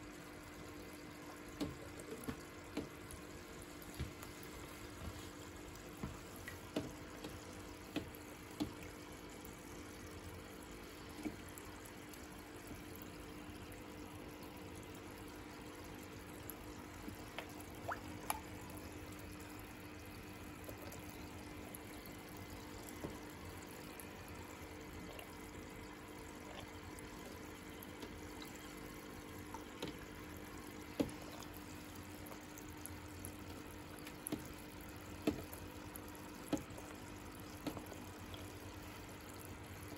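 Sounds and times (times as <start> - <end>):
low steady hum: 0.0 - 39.9
water trickling into tank: 0.0 - 39.9.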